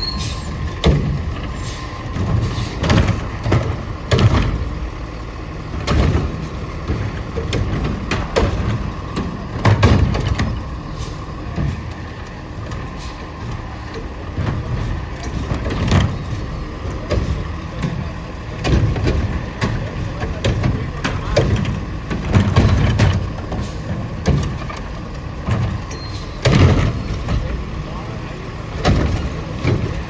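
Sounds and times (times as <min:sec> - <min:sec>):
garbage truck diesel engine running: 0:00.0 - 0:30.0
loader clunks and thumps: 0:00.0 - 0:30.0.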